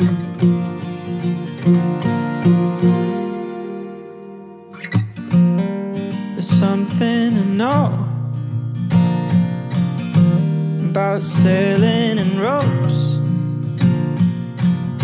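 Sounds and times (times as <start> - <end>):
song with acoustic guitar: 0.0 - 15.0.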